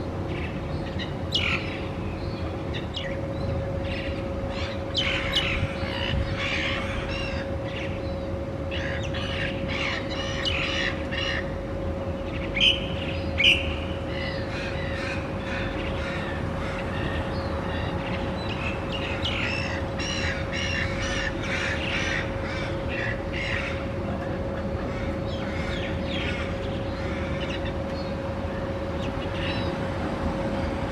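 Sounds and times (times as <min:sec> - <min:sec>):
steady hum: 0:00.0 - 0:30.9
birds squawking and cawing: 0:00.3 - 0:29.9.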